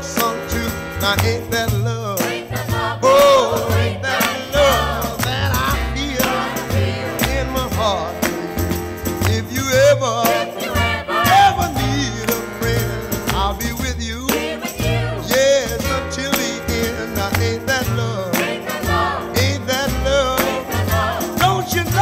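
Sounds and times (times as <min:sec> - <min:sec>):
background song with beat: 0:00.0 - 0:22.0.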